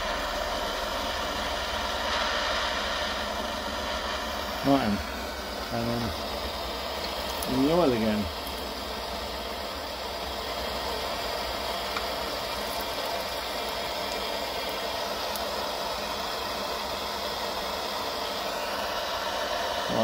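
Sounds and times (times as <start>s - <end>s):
blowtorch flame rushing: 0.0s - 20.0s.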